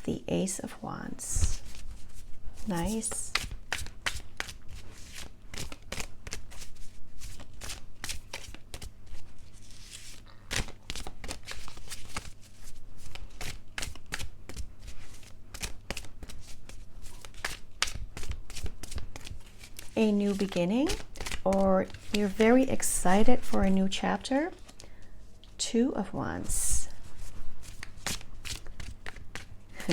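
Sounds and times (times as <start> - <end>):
cards being shuffled: 1.4 - 23.8, 27.0 - 29.9.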